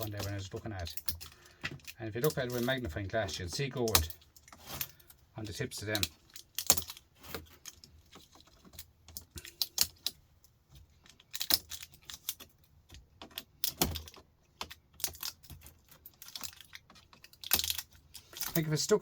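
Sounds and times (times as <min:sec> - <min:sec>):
small electronic parts clicking: 0:00.0 - 0:02.9, 0:03.8 - 0:10.2, 0:10.9 - 0:18.7.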